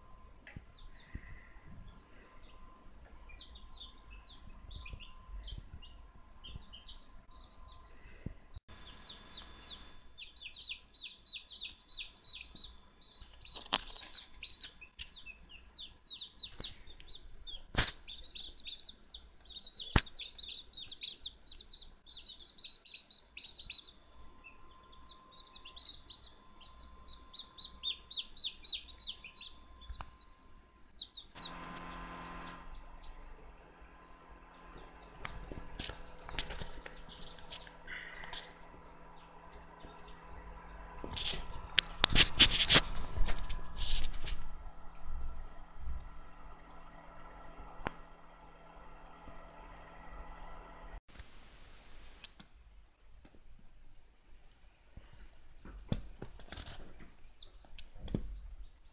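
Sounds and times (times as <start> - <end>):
chicks peeping: 0.4 - 51.0.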